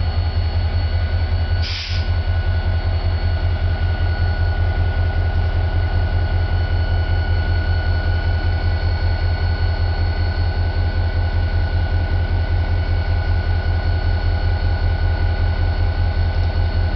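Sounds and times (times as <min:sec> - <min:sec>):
diesel locomotive engine idling: 0:00.0 - 0:16.9.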